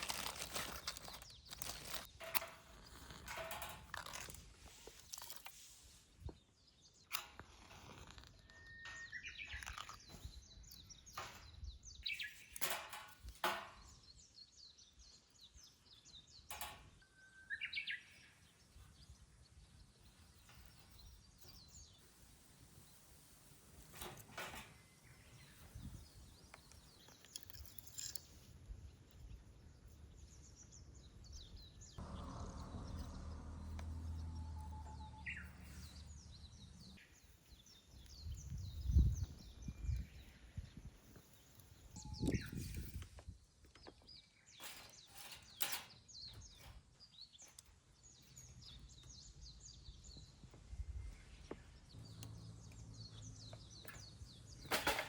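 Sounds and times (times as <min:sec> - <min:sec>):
birds chirping: 0:07.8 - 0:23.3, 0:23.9 - 0:55.0.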